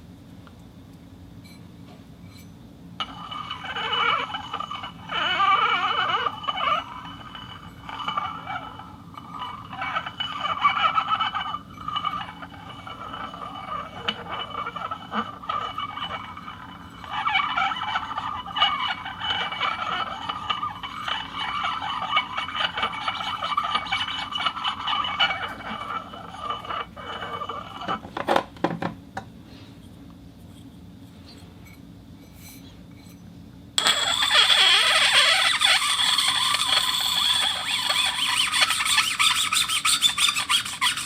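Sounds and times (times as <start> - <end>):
objects scraping on a turntable: 2.3 - 41.0.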